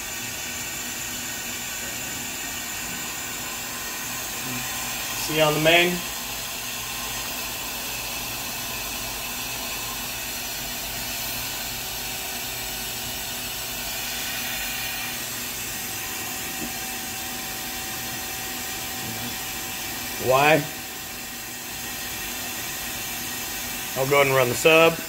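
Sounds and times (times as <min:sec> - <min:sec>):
machine tool humming and hissing: 0:00.0 - 0:25.0.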